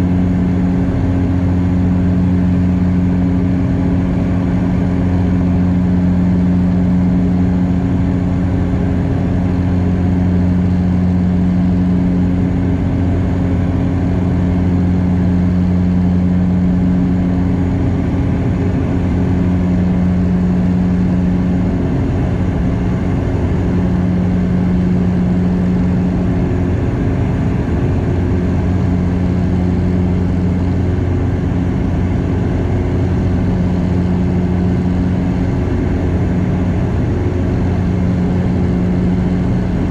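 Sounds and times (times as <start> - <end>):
aircraft cabin propeller drone: 0.0 - 39.9.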